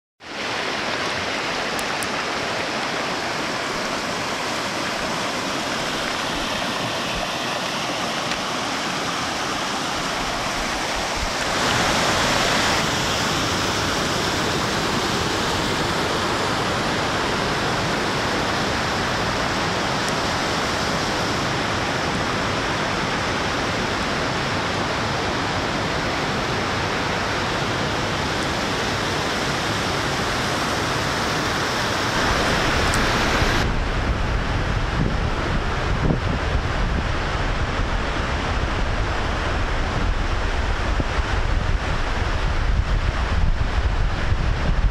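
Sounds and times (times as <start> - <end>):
stream water rushing over rocks: 0.2 - 44.9.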